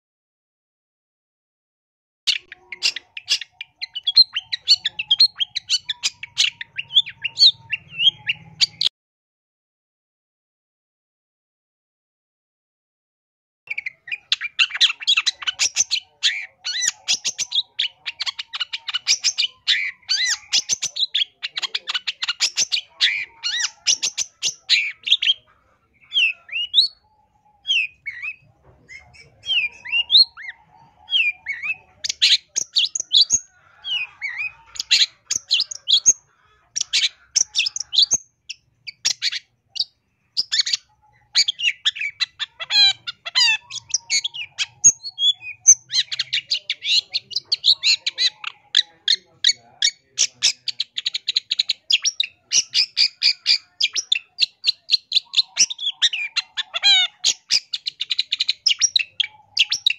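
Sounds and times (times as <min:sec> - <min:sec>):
bird chirping and chattering: 0:02.3 - 0:08.9, 0:13.7 - 0:59.9.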